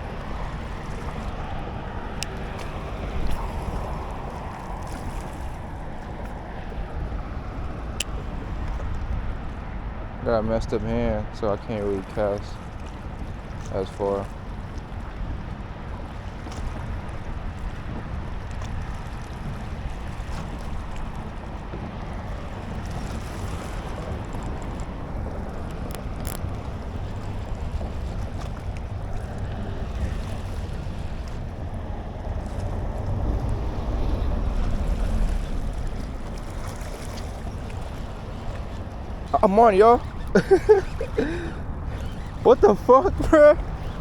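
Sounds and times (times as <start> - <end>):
moving water: 0.0 - 44.0
wind buffeting microphone: 0.0 - 44.0.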